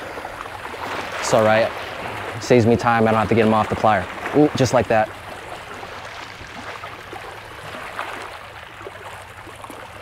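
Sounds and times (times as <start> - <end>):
water lapping at shoreline: 0.0 - 10.0.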